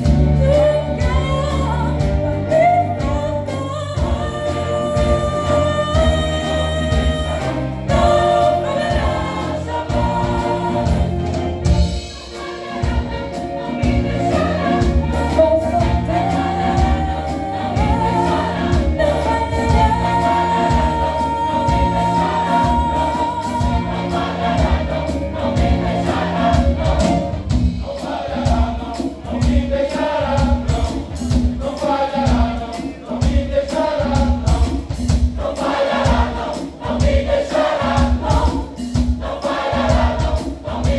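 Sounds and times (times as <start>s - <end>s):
band with steady beat: 0.0s - 40.9s
choir singing gospel: 0.0s - 40.9s.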